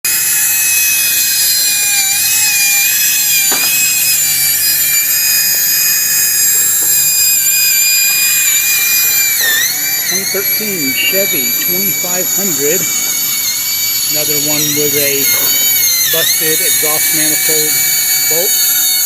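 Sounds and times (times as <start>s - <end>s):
power drill whining: 0.0s - 19.0s.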